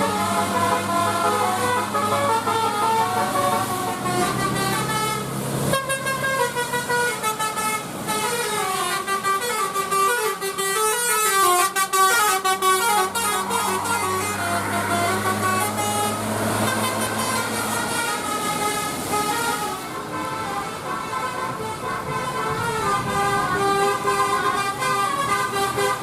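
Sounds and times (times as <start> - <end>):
musical air horns playing tune: 0.0 - 26.0.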